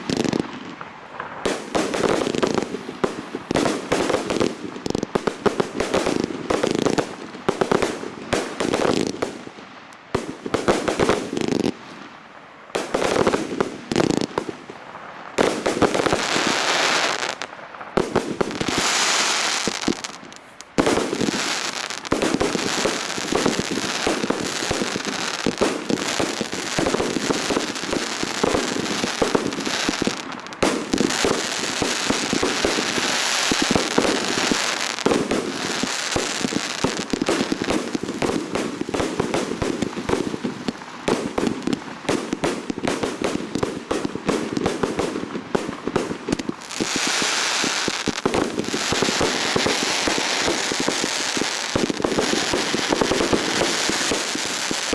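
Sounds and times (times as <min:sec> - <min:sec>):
fireworks bursts and bangs: 0:00.0 - 0:54.9
fireworks hissing and crackling: 0:00.0 - 0:54.9.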